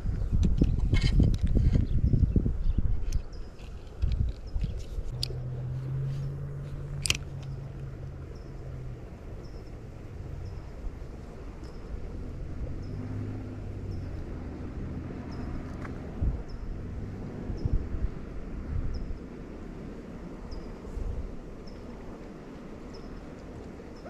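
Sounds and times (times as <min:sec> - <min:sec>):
distant engine hum: 0:00.0 - 0:24.0.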